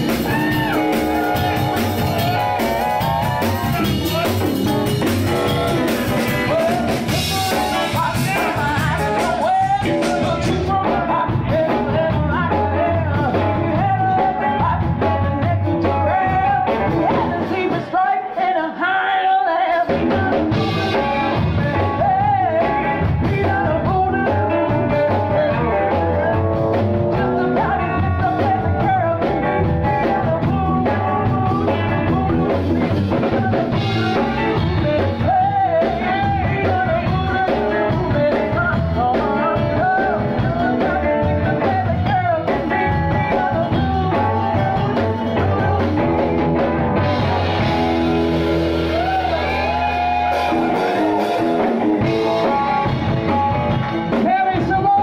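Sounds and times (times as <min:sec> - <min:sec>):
person singing: 0:00.0 - 0:55.0
rock and roll band playing: 0:00.0 - 0:55.0.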